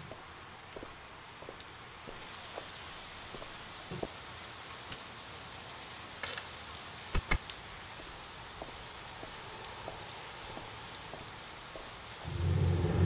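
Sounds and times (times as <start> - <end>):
steady rain: 0.0 - 13.0
water drips: 1.5 - 13.0.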